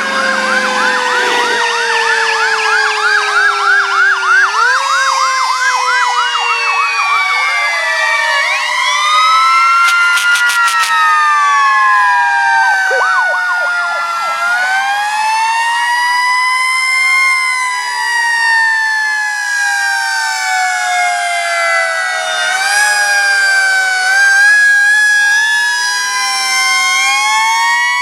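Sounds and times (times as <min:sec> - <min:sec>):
fire truck sirens wailing: 0:00.0 - 0:28.0
warbling siren: 0:00.0 - 0:28.0.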